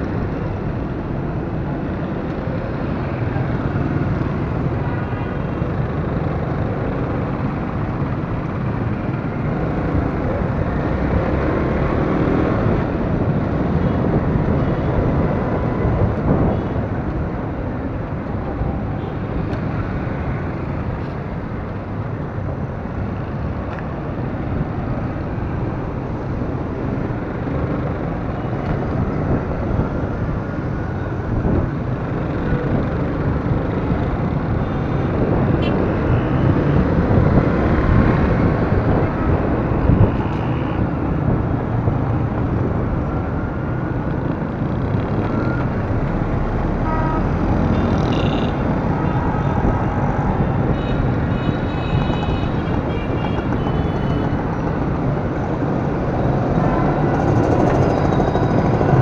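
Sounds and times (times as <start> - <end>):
road noise: 0.0 - 59.0
vehicles passing: 0.0 - 59.0.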